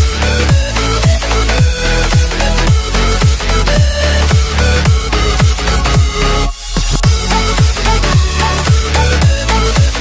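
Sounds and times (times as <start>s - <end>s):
bass kicks: 0.0s - 10.0s
electronic dance music: 0.0s - 10.0s.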